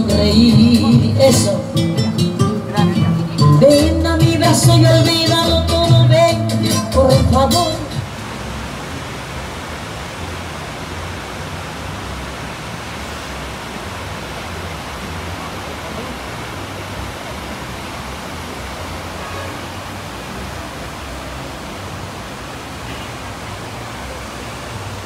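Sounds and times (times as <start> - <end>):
river rushing over rocks: 0.0 - 25.0
road traffic: 0.0 - 25.0.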